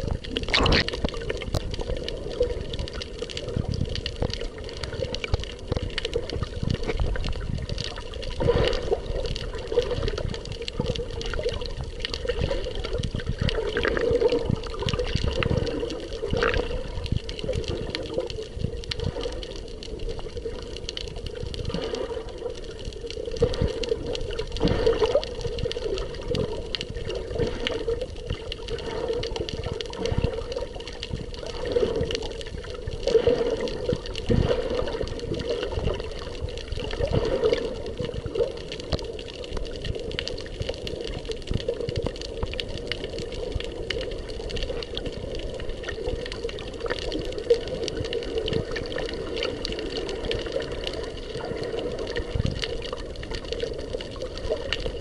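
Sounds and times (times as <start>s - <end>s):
muffled underwater sloshing and bubbling: 0.0s - 55.0s.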